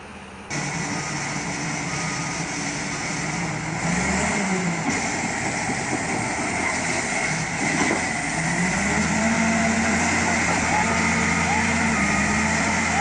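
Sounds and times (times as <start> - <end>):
vehicle engine revving: 0.5 - 13.0.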